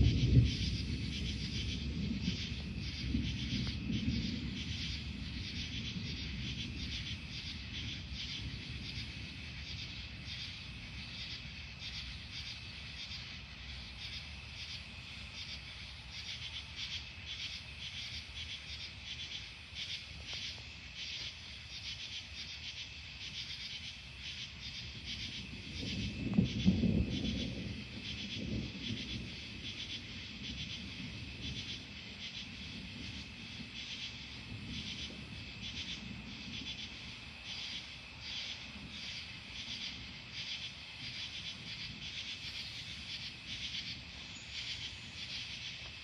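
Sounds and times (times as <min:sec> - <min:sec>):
thunder rumbling: 0:00.0 - 0:15.6, 0:24.2 - 0:46.0
insects chirping: 0:00.0 - 0:46.0.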